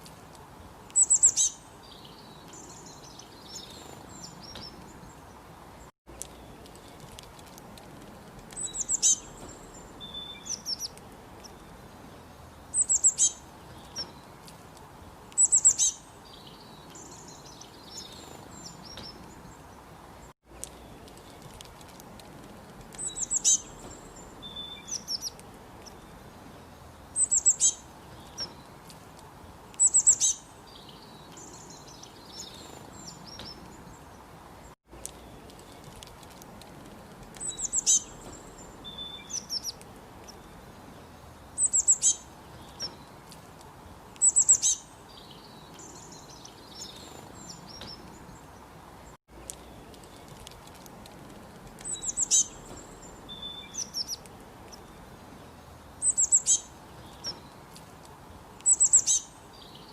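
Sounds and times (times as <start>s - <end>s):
background hiss: 0.0s - 59.9s
small bird chirping: 0.9s - 5.4s, 8.5s - 14.6s, 15.3s - 43.4s, 44.2s - 57.9s, 58.6s - 59.9s.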